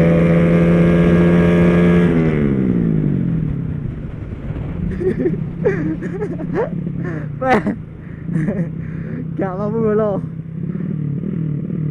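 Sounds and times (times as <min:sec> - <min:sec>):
motorcycle engine revving: 0:00.0 - 0:11.9
road and wind rumble: 0:00.0 - 0:11.9.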